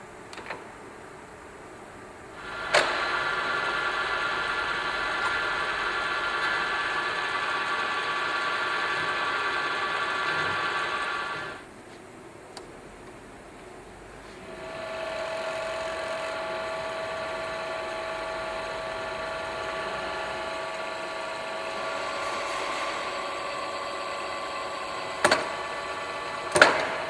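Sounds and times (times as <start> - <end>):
drill press motor whine: 2.4 - 11.6, 14.4 - 27.0.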